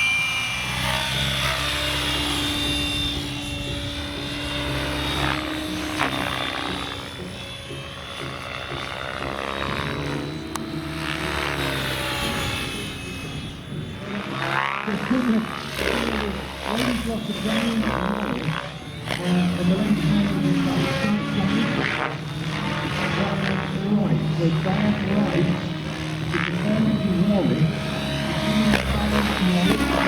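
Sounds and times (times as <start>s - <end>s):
rc helicopter rotor and motor: 0.0s - 30.0s.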